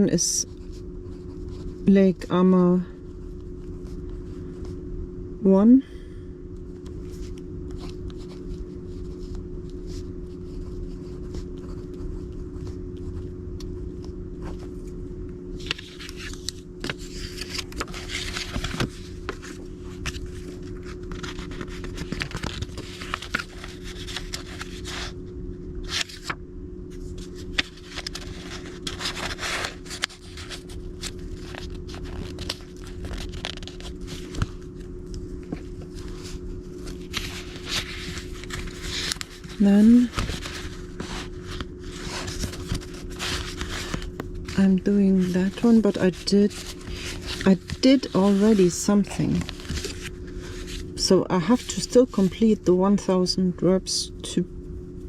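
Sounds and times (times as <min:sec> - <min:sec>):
steady low hum: 0:00.0 - 0:55.0
index cards scraping and rustling: 0:00.4 - 0:04.8, 0:06.7 - 0:25.2, 0:25.8 - 0:53.1.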